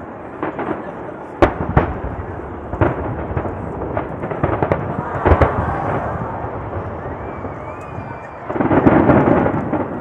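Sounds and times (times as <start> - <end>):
fireworks booming: 0.0 - 10.0
fireworks crackling: 0.0 - 10.0.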